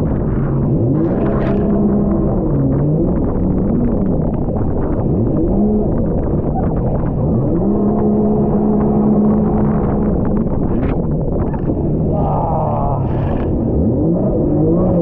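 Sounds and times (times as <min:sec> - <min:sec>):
jet ski engine: 0:00.0 - 0:15.0
rush of wind and water: 0:00.0 - 0:15.0.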